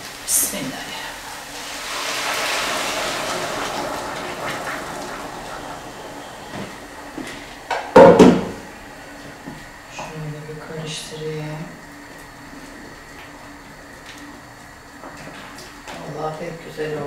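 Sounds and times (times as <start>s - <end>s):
water hissing and bubbling in pot: 0.0s - 16.2s.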